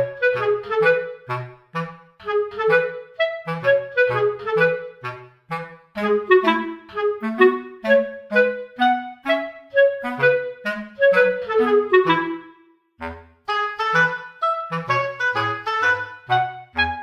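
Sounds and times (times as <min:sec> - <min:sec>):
instrumental music with bass: 0:00.0 - 0:17.0.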